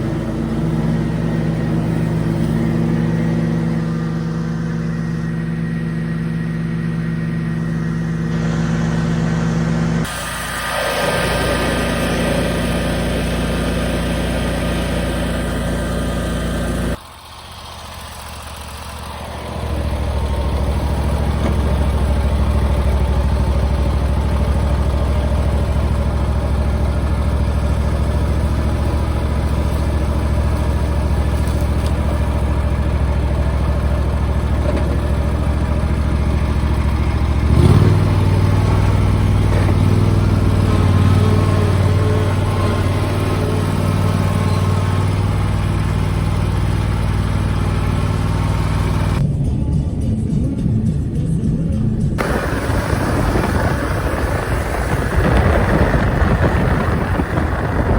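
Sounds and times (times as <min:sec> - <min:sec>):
vehicle engine droning: 0:00.0 - 0:57.9.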